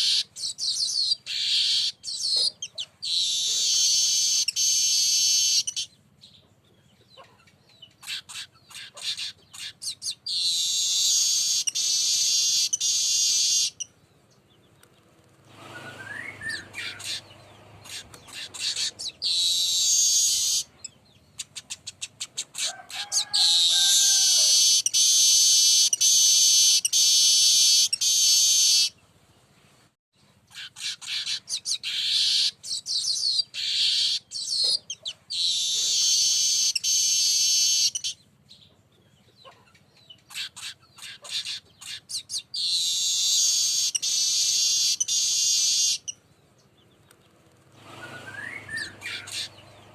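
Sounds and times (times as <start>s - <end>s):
weaver birds singing: 0.0s - 29.1s, 30.5s - 49.9s.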